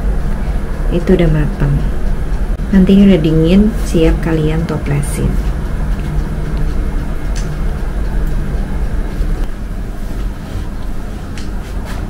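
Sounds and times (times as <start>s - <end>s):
low mechanical hum and rumble: 0.0s - 12.0s.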